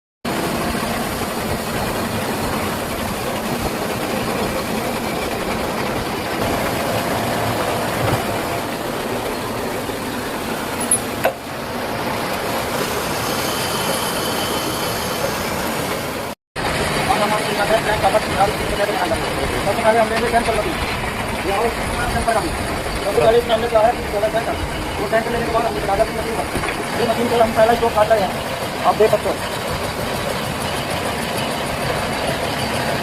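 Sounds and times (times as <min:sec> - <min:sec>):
lathe and machinery running: 0:00.3 - 0:33.0.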